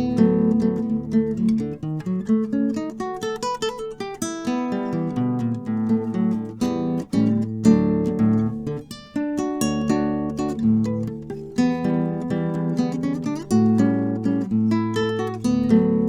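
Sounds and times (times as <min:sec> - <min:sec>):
classical guitar playing: 0:00.0 - 0:16.0.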